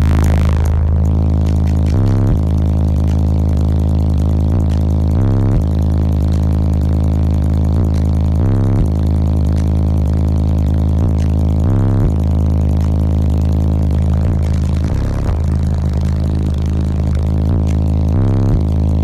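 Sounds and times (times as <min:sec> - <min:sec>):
subwoofers playing heavy bass notes: 0:00.0 - 0:19.0.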